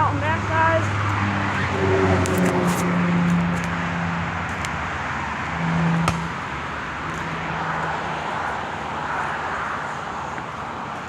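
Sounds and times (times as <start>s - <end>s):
vehicle and street noise: 0.0s - 11.0s.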